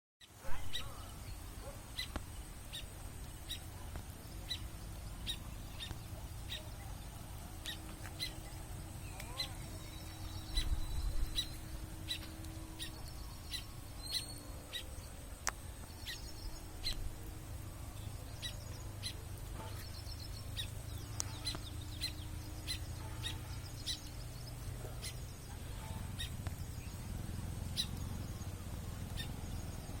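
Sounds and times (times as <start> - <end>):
small bird chirping: 0.2 - 30.0.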